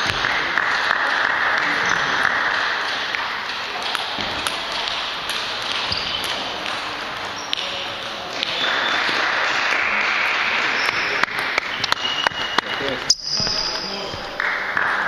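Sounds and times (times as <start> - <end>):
busy hall noise: 0.0 - 15.0.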